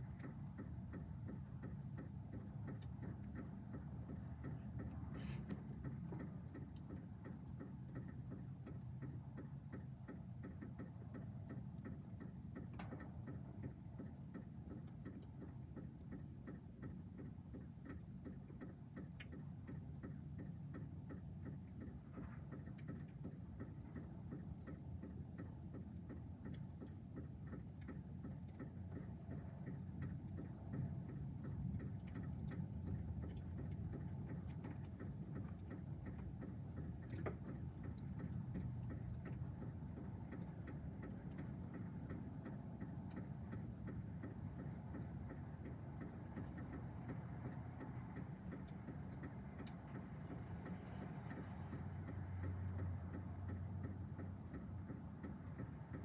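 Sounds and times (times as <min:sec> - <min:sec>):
raindrops ticking on hard surface: 0:00.0 - 0:56.0.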